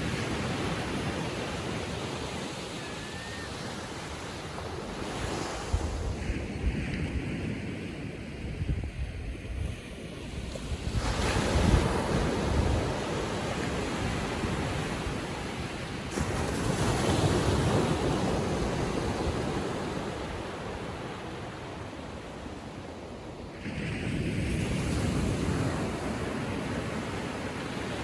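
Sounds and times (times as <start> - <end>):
small ocean waves breaking: 0.0 - 8.5, 9.7 - 28.0.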